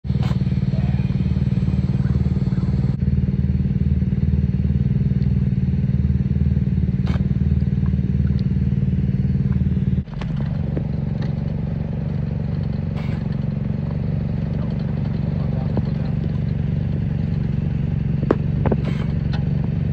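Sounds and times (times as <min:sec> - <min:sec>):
small engine running: 0:00.0 - 0:19.9.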